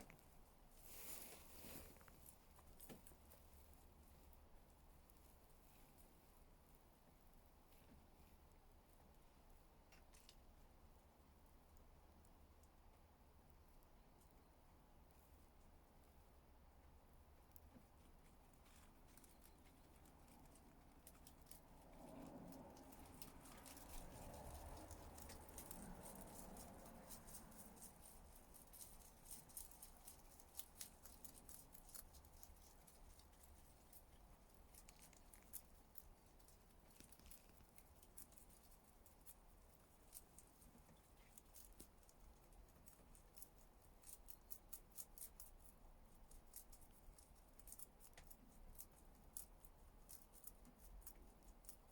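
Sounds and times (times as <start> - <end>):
rabbit chewing leaves: 0.0 - 51.9.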